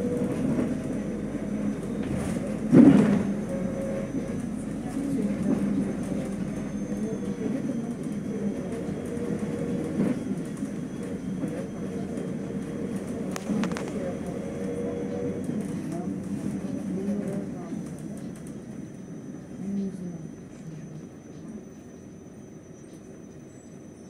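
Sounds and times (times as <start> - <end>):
bus engine and road drone: 0.0 - 24.0.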